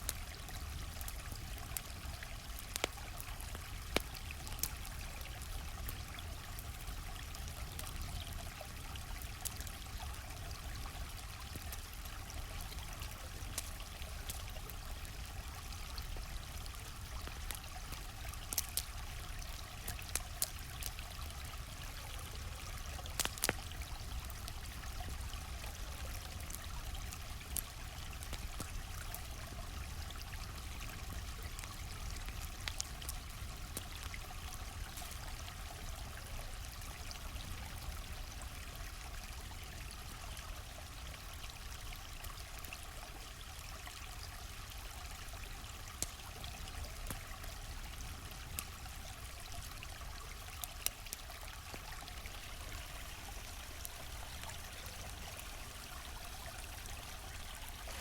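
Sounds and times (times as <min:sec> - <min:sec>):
campfire popping and crackling: 0:00.0 - 0:40.4, 0:41.0 - 0:58.0
stream flowing: 0:00.0 - 0:58.0.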